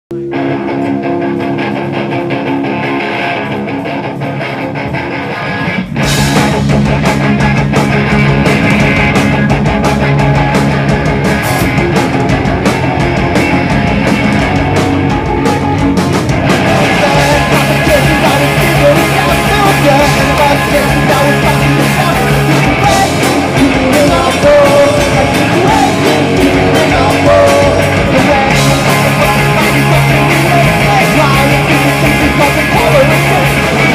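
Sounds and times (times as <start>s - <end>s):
electric guitar held notes: 0.1s - 33.9s
punk rock band playing live: 0.1s - 33.9s.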